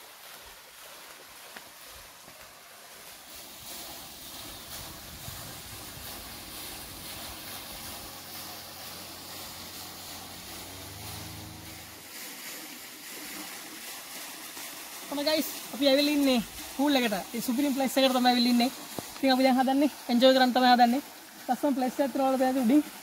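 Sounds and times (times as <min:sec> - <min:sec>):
water pouring into pool: 0:00.0 - 0:23.0.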